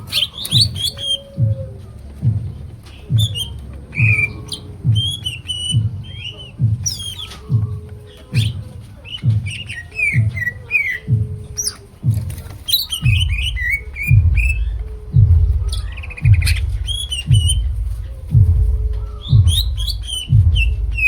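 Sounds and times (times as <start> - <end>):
bird singing chirps and whistles: 0.0 - 21.0
low thudding beat: 0.0 - 21.0.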